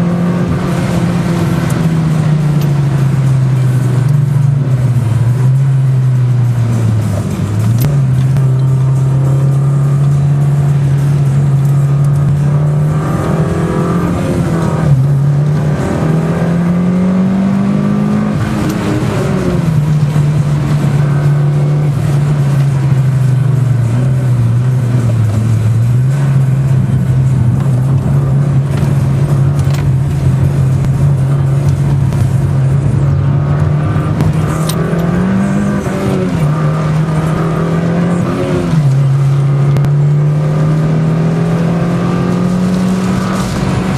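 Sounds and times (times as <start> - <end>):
car engine revving hard: 0.0 - 43.9.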